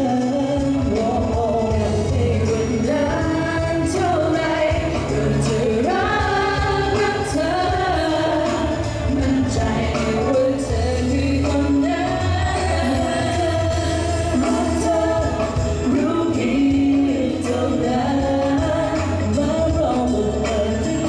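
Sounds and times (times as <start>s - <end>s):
pop song sung live: 0.0s - 21.0s
steady bass line: 0.0s - 21.0s.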